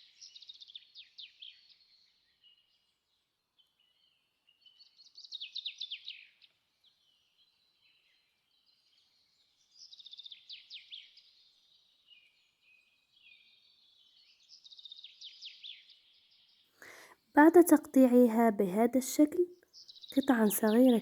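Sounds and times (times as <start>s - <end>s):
faint bird chirping: 0.0s - 21.0s.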